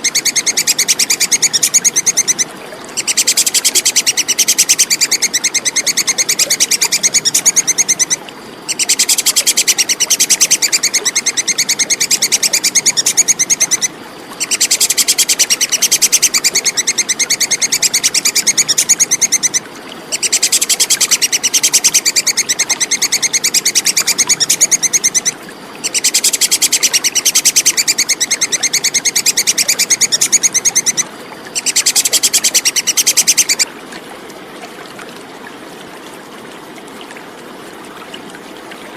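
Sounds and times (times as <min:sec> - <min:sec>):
squirrel chattering call: 0:00.0 - 0:33.7
steady background hiss: 0:00.0 - 0:38.9.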